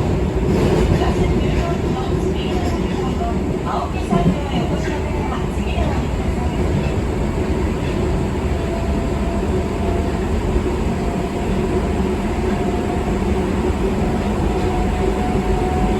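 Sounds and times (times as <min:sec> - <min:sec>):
subway train wheels rumbling: 0:00.0 - 0:15.9.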